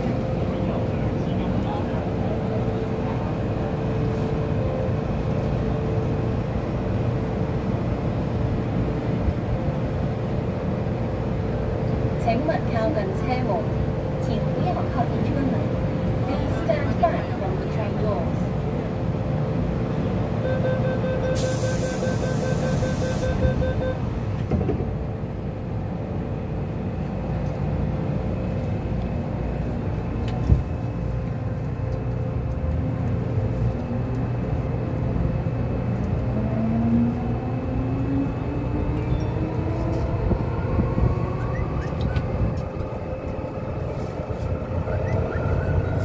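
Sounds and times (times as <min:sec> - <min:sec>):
subway car rumbling: 0:00.0 - 0:46.0.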